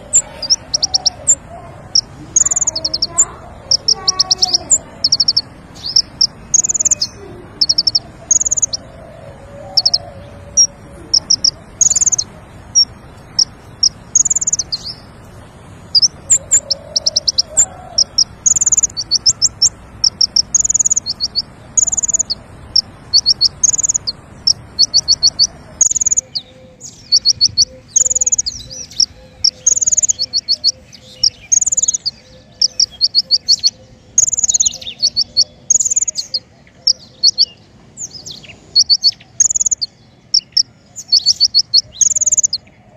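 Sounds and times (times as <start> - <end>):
faint lower bird calls: 0.0 - 15.1, 15.9 - 42.9
songbird trilling: 0.0 - 15.1, 15.8 - 42.9.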